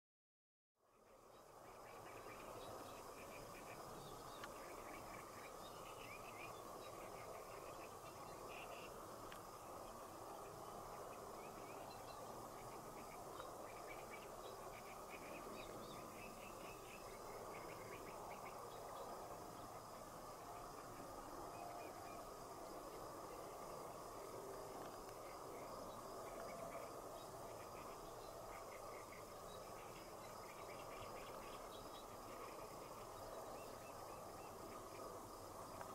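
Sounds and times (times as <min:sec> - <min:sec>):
steady low hiss: 0:00.8 - 0:35.9
insects chirping: 0:00.9 - 0:35.9.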